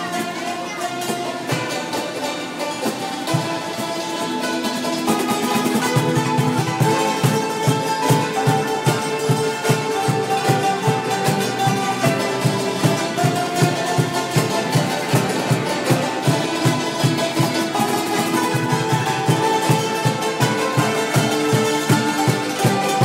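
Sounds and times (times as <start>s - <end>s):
acoustic guitar strumming: 0.0s - 23.0s
hammered dulcimers playing: 0.0s - 23.0s.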